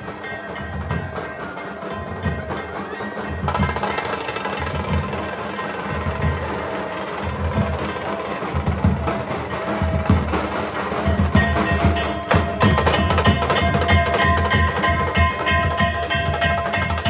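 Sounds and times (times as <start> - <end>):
clacking percussion: 0.0 - 17.0
fast busy drumming: 0.0 - 17.0.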